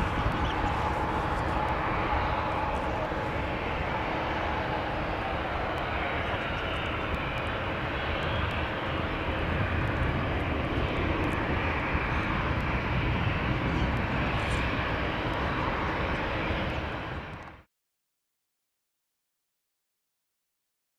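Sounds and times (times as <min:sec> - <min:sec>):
jet engines rumbling at takeoff: 0:00.0 - 0:17.7.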